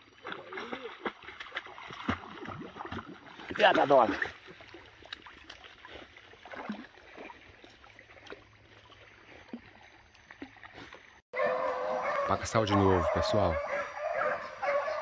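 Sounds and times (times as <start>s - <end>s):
steps sloshing on wet ground: 0.0s - 12.8s.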